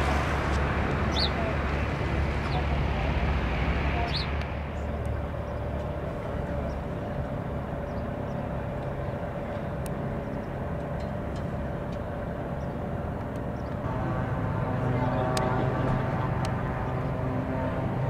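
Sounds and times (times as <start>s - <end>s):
turboprop engines humming: 0.0s - 18.0s.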